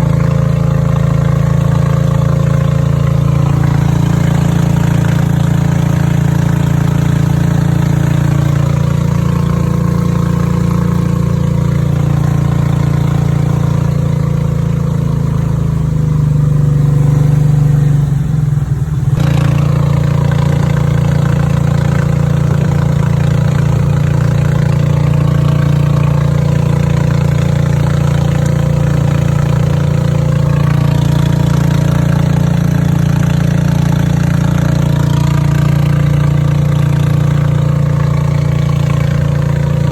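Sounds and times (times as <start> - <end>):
boat engine running loudly: 0.0 - 39.9.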